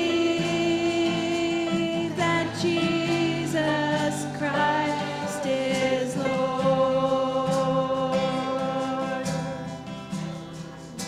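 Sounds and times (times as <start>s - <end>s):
congregation singing: 0.0s - 11.0s
strummed guitar: 0.0s - 11.0s.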